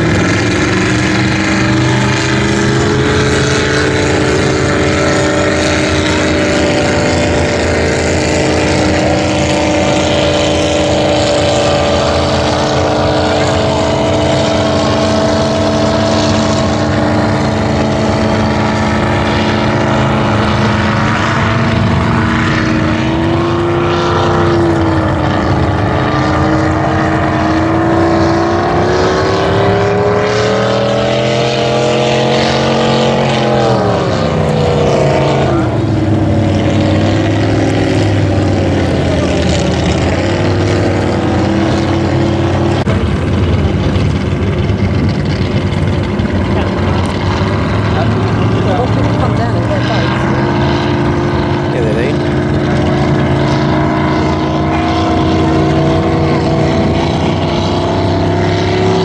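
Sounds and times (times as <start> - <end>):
speedboat engine running hard: 0.0 - 59.0.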